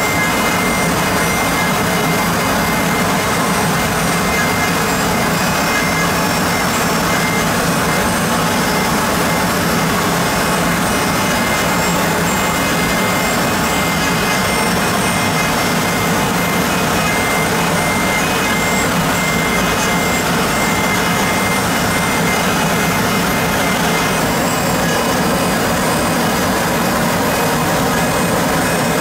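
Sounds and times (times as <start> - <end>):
machine spindle cutting: 0.0 - 29.0.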